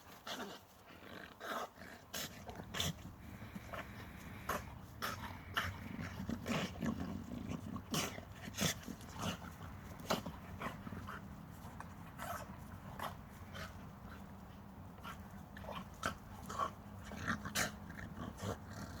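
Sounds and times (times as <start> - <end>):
puppies growling: 0.3 - 19.0
scuffling noises: 2.1 - 19.0.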